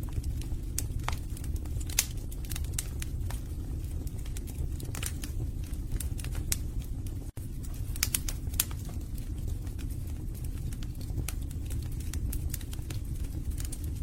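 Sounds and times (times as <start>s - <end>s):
burning logs crackling and popping: 0.0s - 14.0s
fire flames rumbling: 0.0s - 14.0s.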